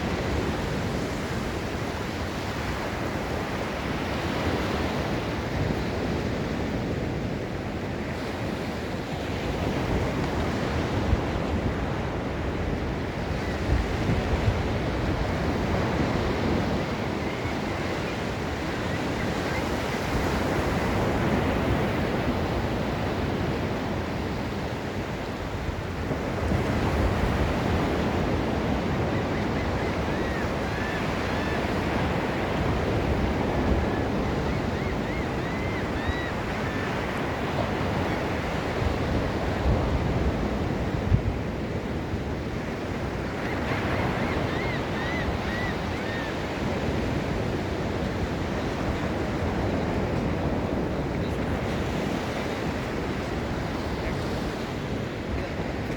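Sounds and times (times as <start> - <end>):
waves breaking on beach: 0.0 - 55.9.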